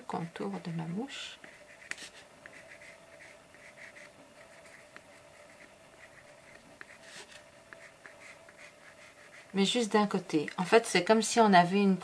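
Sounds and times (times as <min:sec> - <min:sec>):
pencil scratching on paper: 0:00.5 - 0:10.8.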